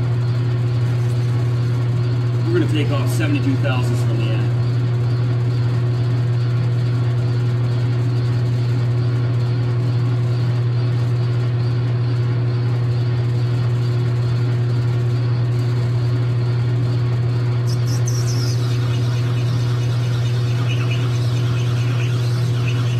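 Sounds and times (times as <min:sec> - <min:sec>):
lathe running with low hum: 0:00.0 - 0:22.9.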